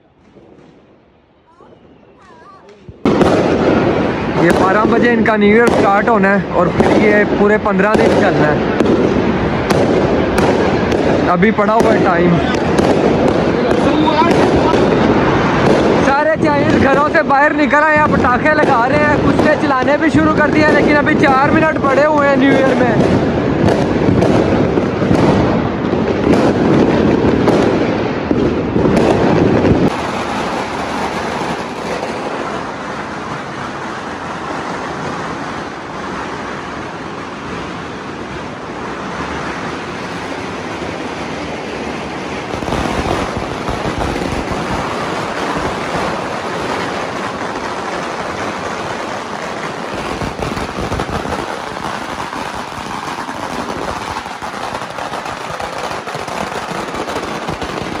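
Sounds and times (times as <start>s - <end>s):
firecrackers crackling: 0.0s - 58.0s.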